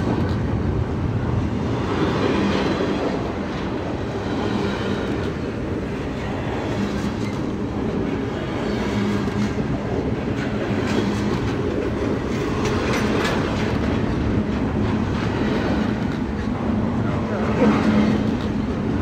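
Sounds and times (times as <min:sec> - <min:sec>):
steel wheels rumbling on rails: 0:00.0 - 0:19.0.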